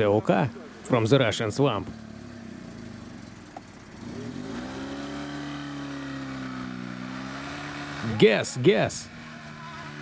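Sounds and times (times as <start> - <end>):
car engine revving under load: 1.8 - 10.0.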